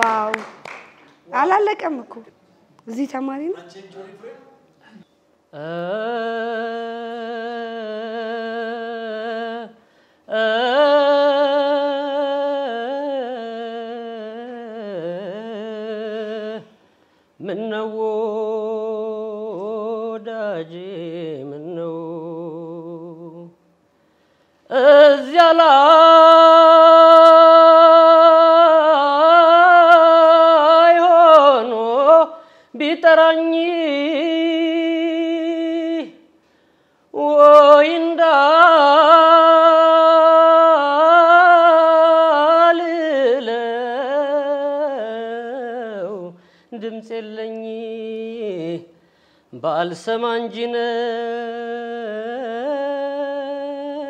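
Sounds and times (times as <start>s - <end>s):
man singing unaccompanied: 5.5s - 16.8s, 17.4s - 23.6s, 24.7s - 36.3s, 37.1s - 54.0s.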